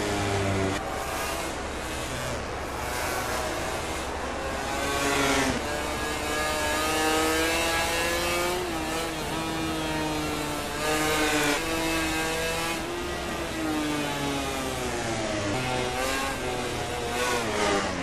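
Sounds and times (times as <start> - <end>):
racing motorcycle engines revving: 0.0 - 18.0.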